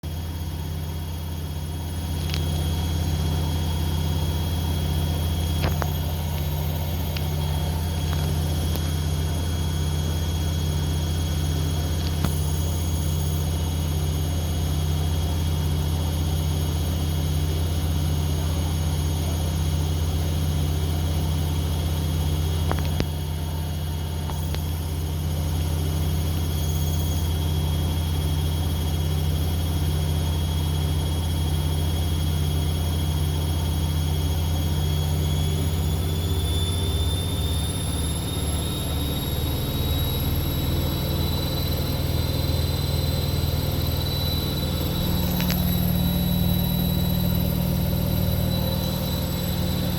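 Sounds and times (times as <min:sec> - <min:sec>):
washing machine spinning: 0:00.0 - 0:49.9.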